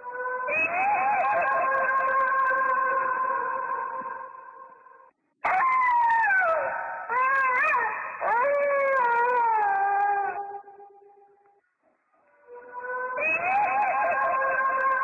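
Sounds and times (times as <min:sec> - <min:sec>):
animal howling: 0:00.0 - 0:04.4, 0:05.4 - 0:10.6, 0:12.4 - 0:15.0.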